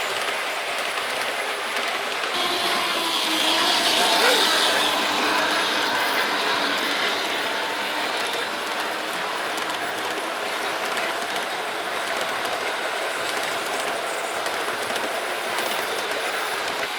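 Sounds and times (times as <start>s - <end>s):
model train wheels clattering: 0.0s - 16.9s.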